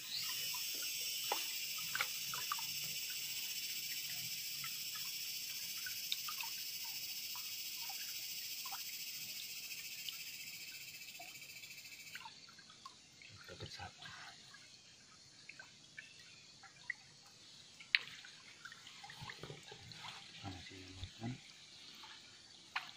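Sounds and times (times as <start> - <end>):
faint ticks and drips: 0.0 - 22.9
insects buzzing: 0.0 - 22.9.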